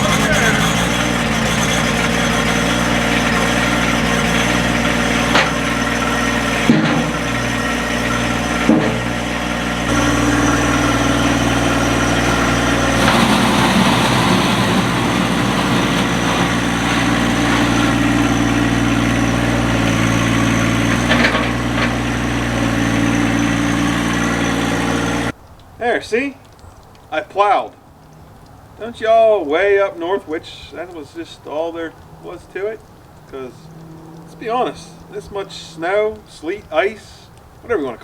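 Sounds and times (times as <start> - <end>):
diesel tractor engine running: 0.0 - 25.4, 28.0 - 37.7
engine knocks: 0.0 - 25.4, 27.8 - 37.7.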